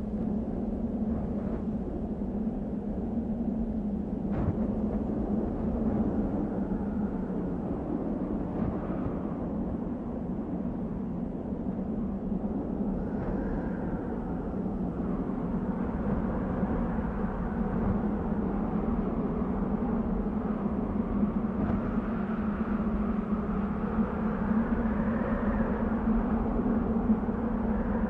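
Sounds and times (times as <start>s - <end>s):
faint moaning wind tone: 0.0s - 28.0s.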